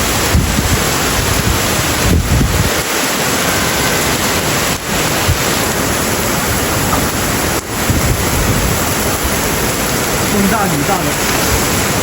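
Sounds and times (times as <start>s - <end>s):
heavy rain hissing: 0.0s - 12.0s
wind buffeting microphone: 0.0s - 12.0s.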